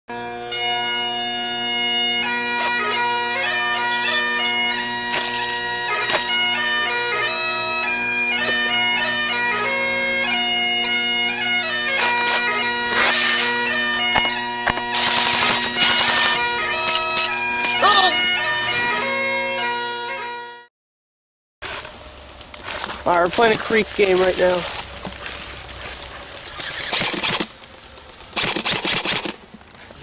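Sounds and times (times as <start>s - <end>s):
bagpipe music: 0.1s - 20.7s, 22.7s - 29.4s.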